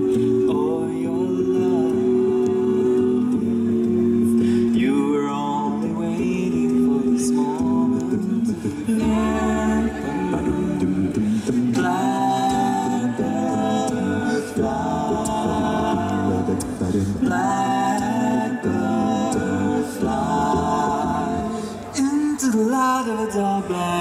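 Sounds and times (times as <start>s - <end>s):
male vocal group singing harmony: 0.0s - 24.0s.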